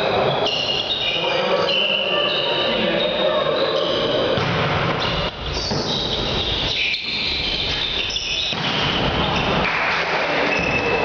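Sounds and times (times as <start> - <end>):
shoe squeaks: 0.0 - 4.4, 5.0 - 9.7, 10.4 - 11.0
echoing sports hall noise: 0.0 - 11.0.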